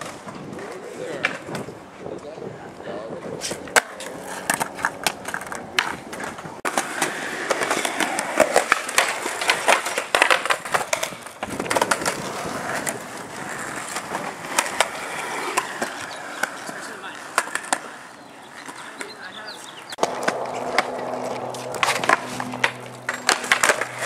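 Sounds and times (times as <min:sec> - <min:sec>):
skateboard trucks grinding: 0:00.0 - 0:24.0
skateboard wheels rolling: 0:00.0 - 0:24.0
skateboards clacking: 0:00.0 - 0:24.0.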